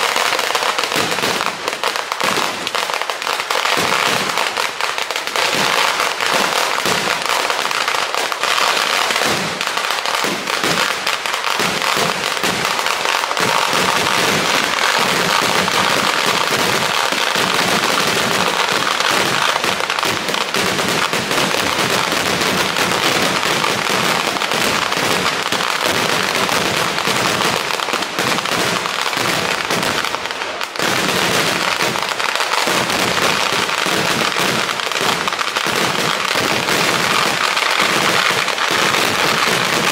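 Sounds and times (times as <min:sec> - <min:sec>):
firecrackers banging and crackling: 0:00.0 - 0:39.9.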